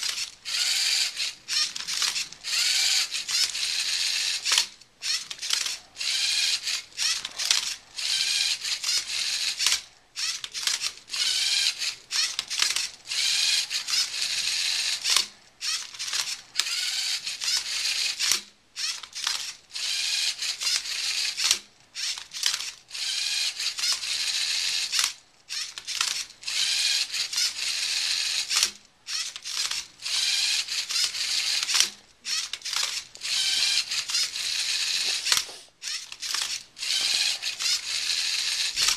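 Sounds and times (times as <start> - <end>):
robot motors whirring: 0.0 - 38.9.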